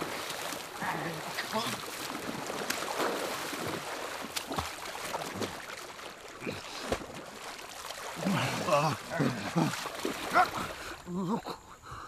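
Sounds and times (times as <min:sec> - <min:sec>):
sharp water splashes: 0:00.0 - 0:11.1
person wading through water: 0:00.0 - 0:11.7.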